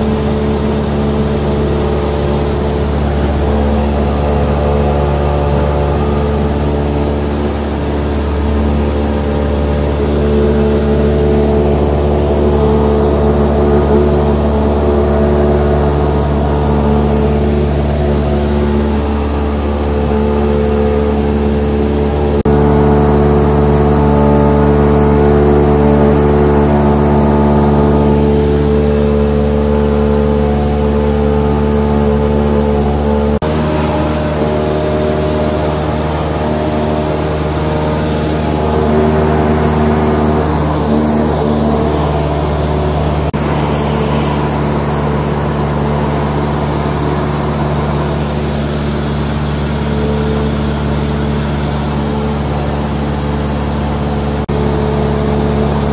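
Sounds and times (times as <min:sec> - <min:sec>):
propeller airplane engine droning: 0:00.0 - 0:55.9.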